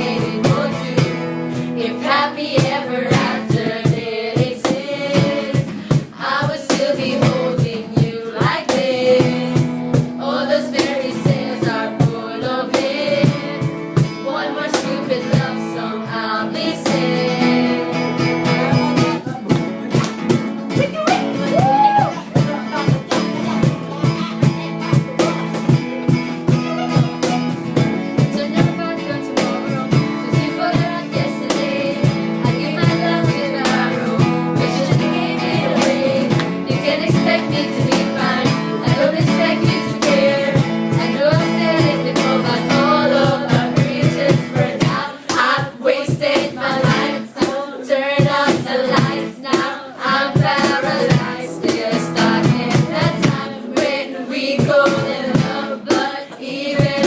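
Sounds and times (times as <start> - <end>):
person singing: 0.0 - 20.0, 20.8 - 25.6, 26.5 - 27.6, 28.2 - 57.0
acoustic guitar strumming: 0.0 - 57.0.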